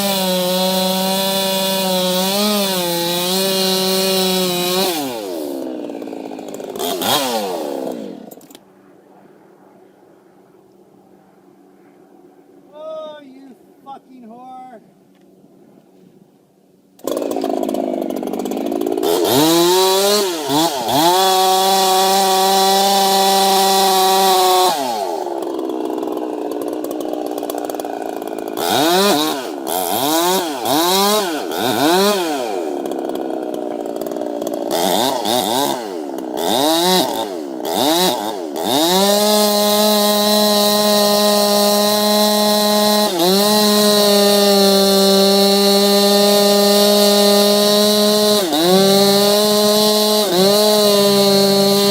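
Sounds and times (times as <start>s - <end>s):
chainsaw engine revving: 0.0s - 8.6s, 17.0s - 51.9s.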